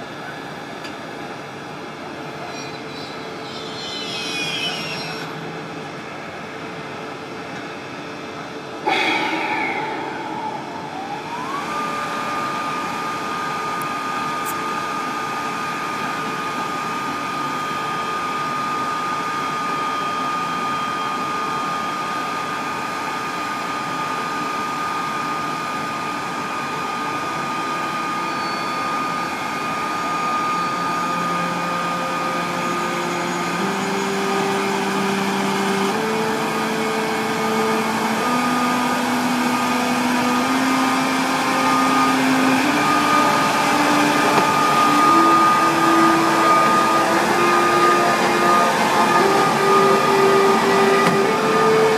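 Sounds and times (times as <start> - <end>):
electric locomotive whine: 0.0 - 51.9.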